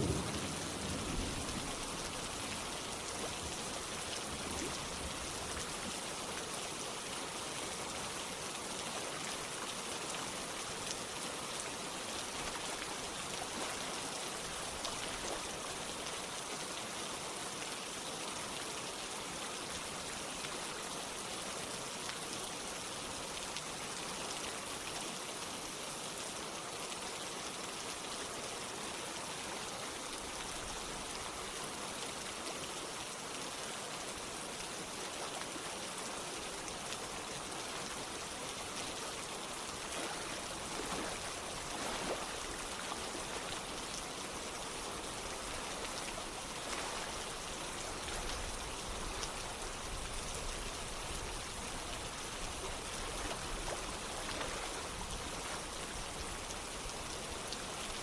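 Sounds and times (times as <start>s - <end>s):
running water: 0.0s - 58.0s
steady rain: 0.0s - 58.0s.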